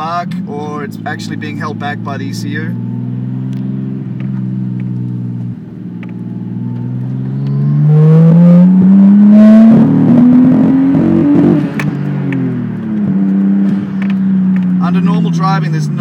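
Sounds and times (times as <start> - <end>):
car engine accelerating and stuttering: 0.0 - 16.0.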